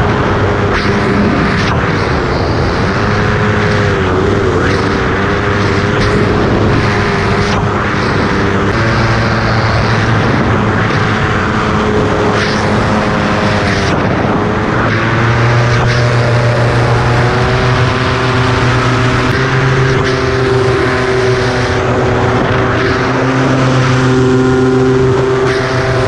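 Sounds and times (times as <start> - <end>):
paramotor engine running: 0.0 - 26.0
wind rush over microphone: 0.0 - 26.0.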